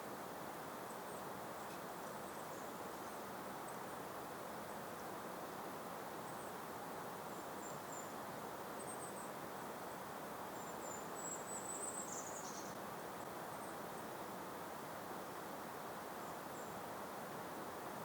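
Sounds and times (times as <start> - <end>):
gentle breeze: 0.0 - 18.0.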